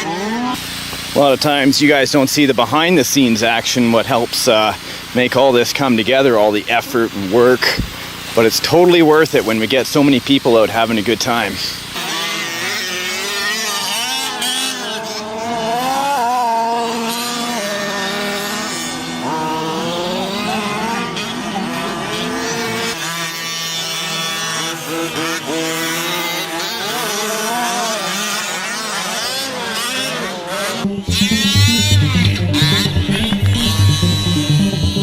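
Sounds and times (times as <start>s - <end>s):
toy car motors revving: 0.0s - 31.9s.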